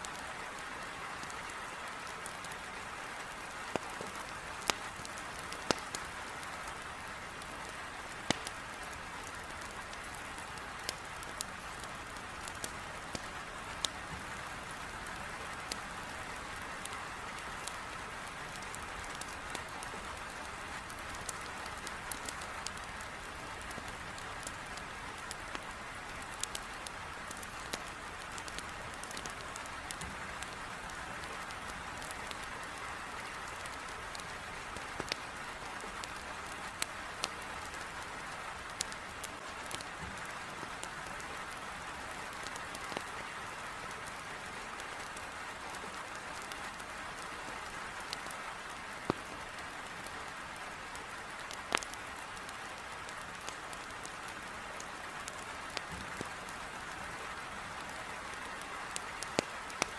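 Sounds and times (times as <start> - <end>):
heavy rain on a window: 0.0 - 59.9
wood fire crackling: 0.0 - 59.9.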